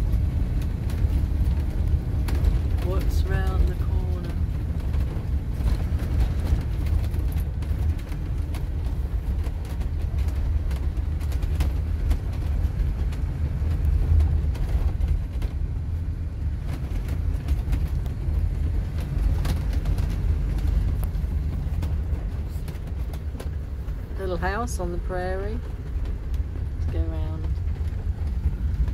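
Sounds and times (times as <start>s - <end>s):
engine and road rumble: 0.0s - 28.9s.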